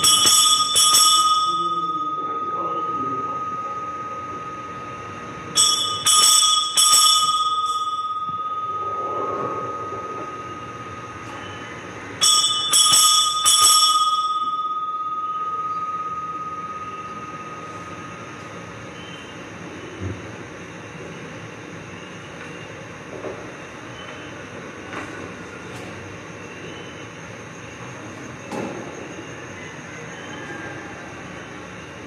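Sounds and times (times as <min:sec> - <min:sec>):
bells ringing: 0:00.0 - 0:32.0
faint steady high tone: 0:00.0 - 0:32.0.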